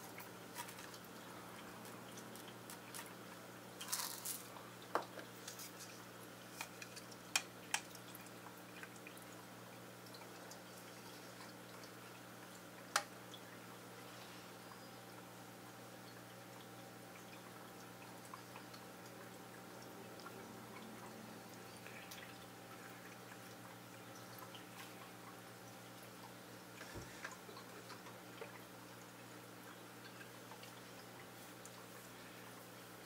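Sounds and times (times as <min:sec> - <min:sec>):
aquarium equipment hum: 0:00.0 - 0:33.0
water drips: 0:00.0 - 0:33.0.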